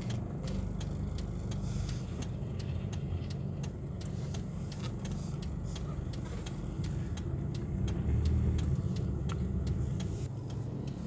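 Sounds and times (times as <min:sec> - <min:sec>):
engine and road drone: 0:00.0 - 0:11.0
light regular ticks: 0:00.0 - 0:11.0.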